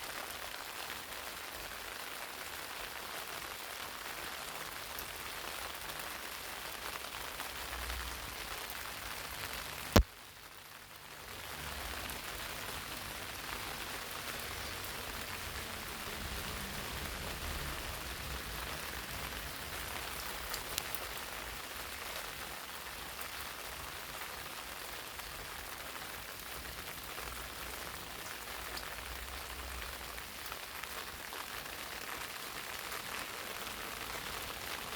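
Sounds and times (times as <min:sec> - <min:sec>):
rain patter on leaves: 0:00.0 - 0:34.9.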